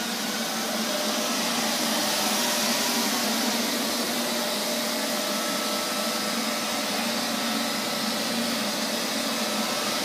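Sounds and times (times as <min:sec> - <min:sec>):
robot vacuum cleaner running: 0:00.0 - 0:10.0.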